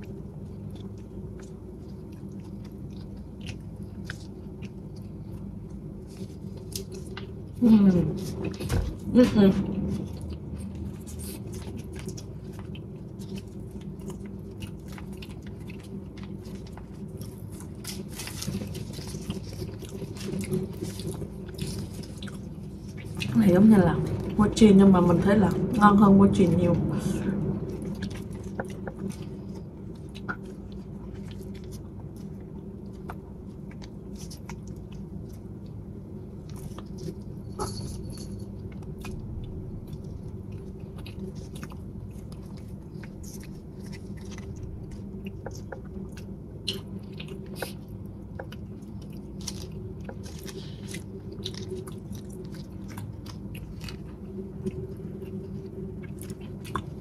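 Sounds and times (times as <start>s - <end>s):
chewing and mouth sounds: 0.0s - 57.0s
dried leaf wrapper crackling: 0.0s - 57.0s
steady low hum: 0.0s - 57.0s.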